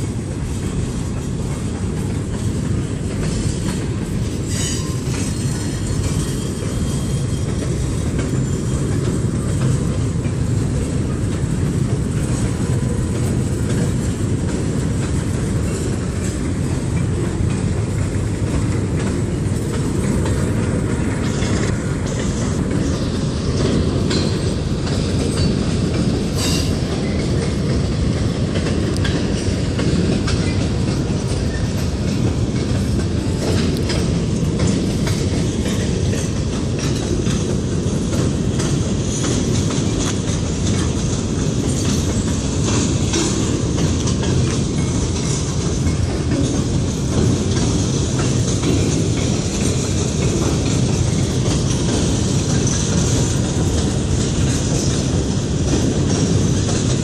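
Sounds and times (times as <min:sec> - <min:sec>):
freight train rolling rumble: 0:00.0 - 0:57.0
wheels clicking over rail joints: 0:00.0 - 0:57.0.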